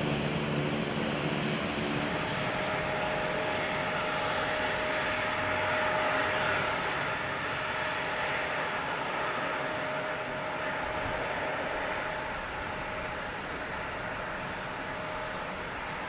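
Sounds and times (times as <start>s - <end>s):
jet engines running: 0.0s - 16.0s
steady whine: 0.0s - 16.0s.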